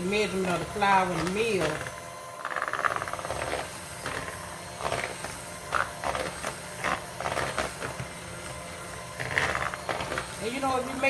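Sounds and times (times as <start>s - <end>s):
batter mixed in a bowl: 0.0s - 11.0s.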